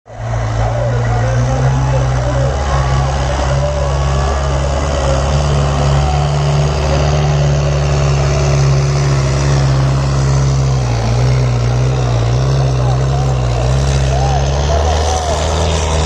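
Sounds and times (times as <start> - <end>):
tractor diesel engine droning: 0.1 - 16.0.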